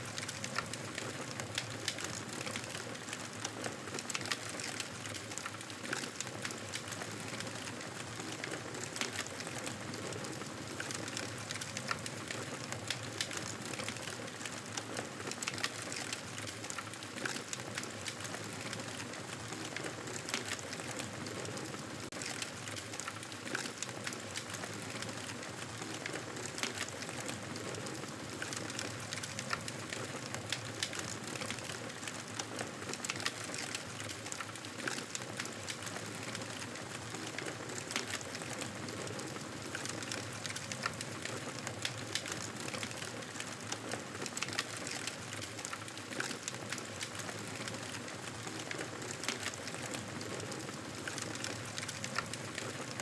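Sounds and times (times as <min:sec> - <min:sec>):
campfire crackling and popping: 0:00.1 - 0:21.2, 0:22.1 - 0:53.0.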